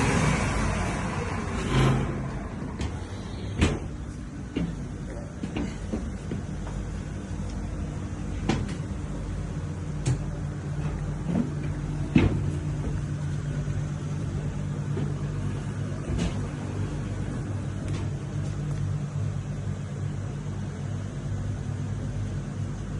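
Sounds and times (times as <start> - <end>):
machinery humming: 0.0 - 22.9.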